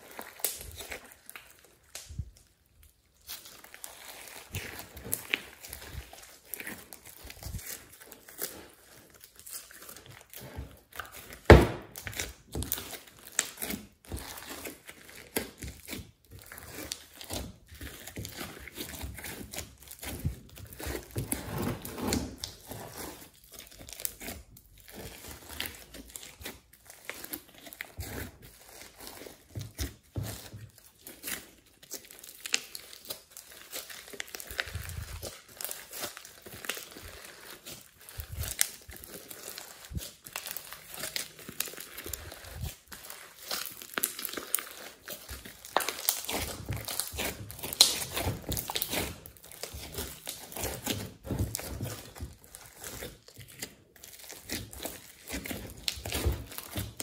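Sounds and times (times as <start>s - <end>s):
hands squishing sticky slime: 0.0s - 57.0s
slime crackles and pops: 0.0s - 57.0s.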